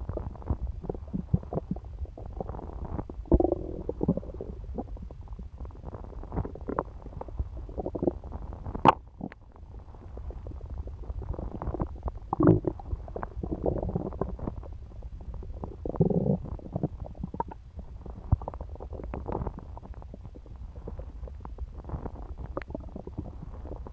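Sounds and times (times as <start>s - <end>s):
stomach gurgling: 0.0s - 23.9s
stomach low rumble: 0.0s - 23.9s.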